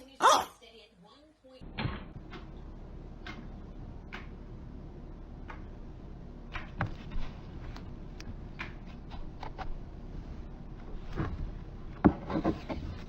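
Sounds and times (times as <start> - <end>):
low hum: 1.6 - 13.0.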